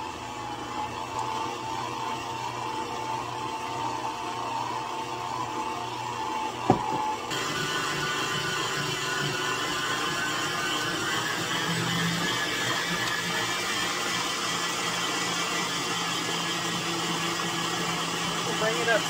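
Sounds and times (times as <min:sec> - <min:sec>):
electric mixer motor humming: 0:00.0 - 0:19.0.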